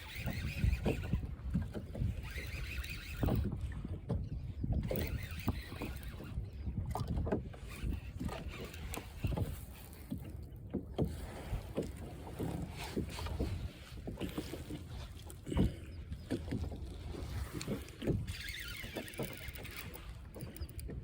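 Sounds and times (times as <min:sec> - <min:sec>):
water slapping around a boat: 0:00.0 - 0:21.0.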